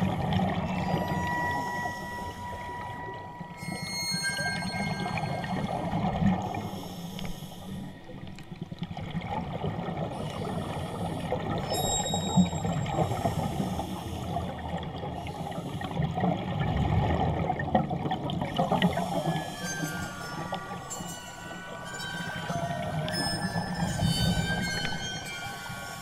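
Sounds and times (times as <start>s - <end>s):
underwater bubbles gurgling: 0.0s - 26.0s.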